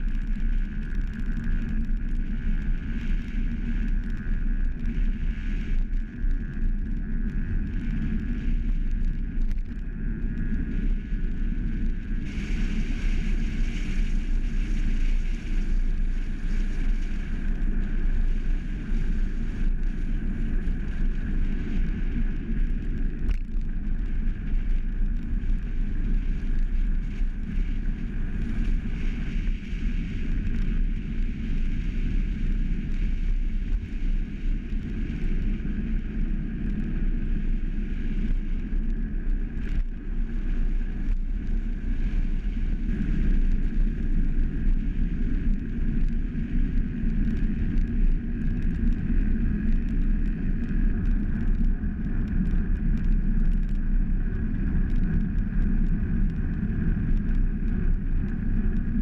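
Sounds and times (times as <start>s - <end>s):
wind rushing on microphone: 0.0s - 59.0s
road noise from rolling wheels: 0.1s - 59.0s.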